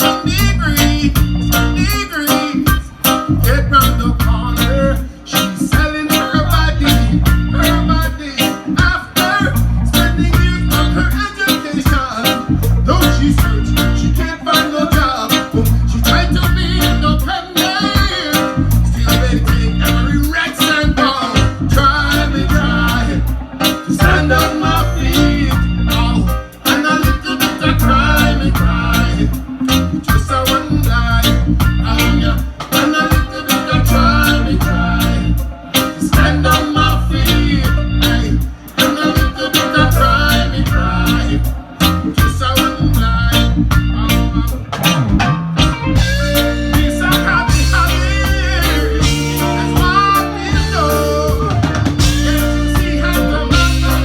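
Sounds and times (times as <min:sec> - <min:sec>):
heavy bass line: 0:00.0 - 0:54.0
plucked guitar: 0:00.0 - 0:54.0
reggae music: 0:00.0 - 0:54.0
steady percussion beat: 0:00.0 - 0:54.0.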